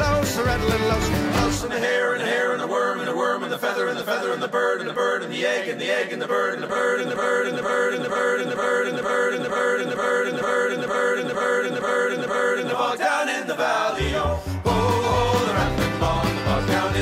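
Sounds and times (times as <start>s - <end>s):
men singing folk song: 0.0s - 17.0s.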